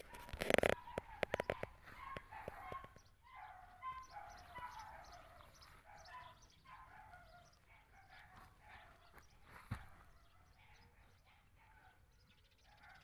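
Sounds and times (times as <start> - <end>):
faint chicken calls: 0.0 - 13.0.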